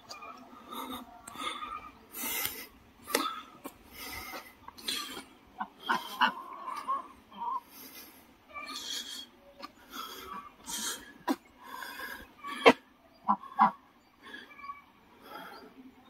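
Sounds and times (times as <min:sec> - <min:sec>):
ducks quacking: 0:00.0 - 0:13.8.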